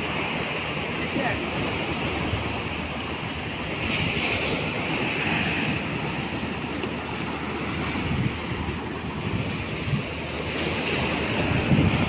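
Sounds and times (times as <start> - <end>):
surf breaking over rocks: 0.0 - 12.0
wind on microphone: 1.1 - 12.0.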